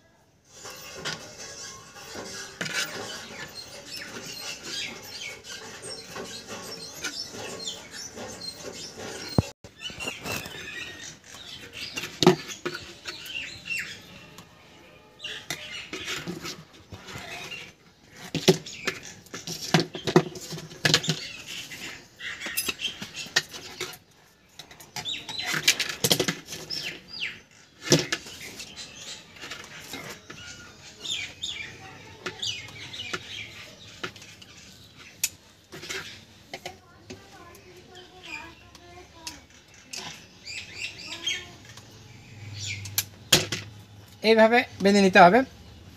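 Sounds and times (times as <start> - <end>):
metal scraping: 0.4 - 45.2.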